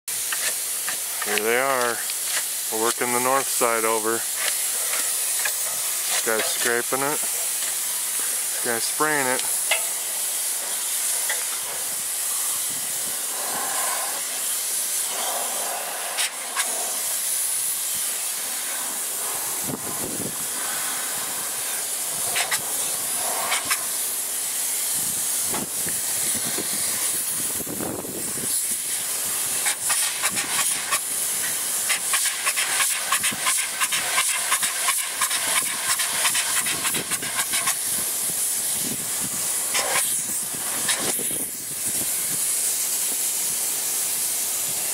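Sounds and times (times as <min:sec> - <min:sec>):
spray foam gun hissing: 0:00.1 - 0:44.9.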